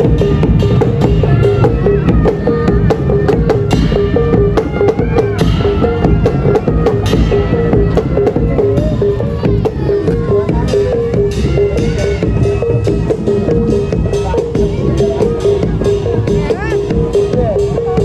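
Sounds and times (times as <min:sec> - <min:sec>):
fast drum beats: 0:00.0 - 0:18.0
wavering melody line: 0:00.0 - 0:18.0.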